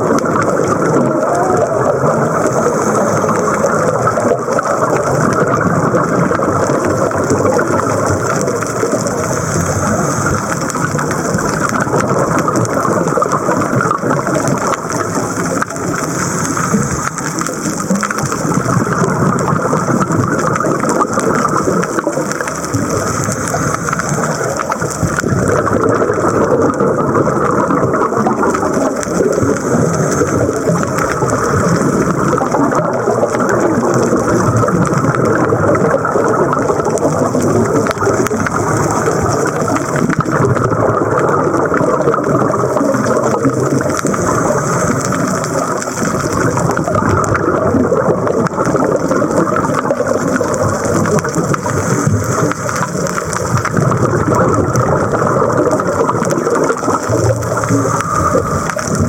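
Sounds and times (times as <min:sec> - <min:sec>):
rushing crackling underwater noise: 0:00.0 - 0:59.0.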